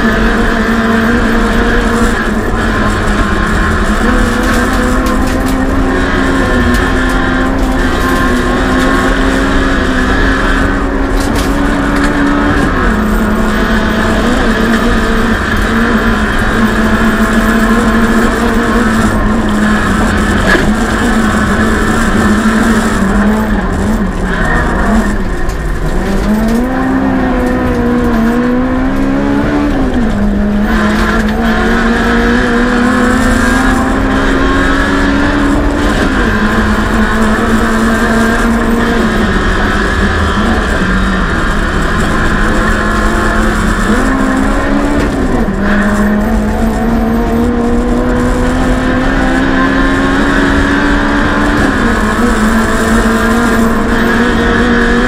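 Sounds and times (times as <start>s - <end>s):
rally car engine shifting gears: 0.0s - 55.0s.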